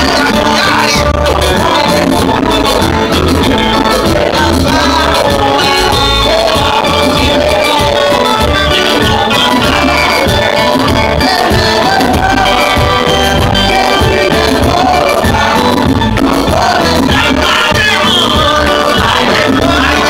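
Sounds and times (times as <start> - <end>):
heavy bass pulse: 0.0 - 20.0
live band playing worship music: 0.0 - 20.0
people singing: 0.0 - 20.0.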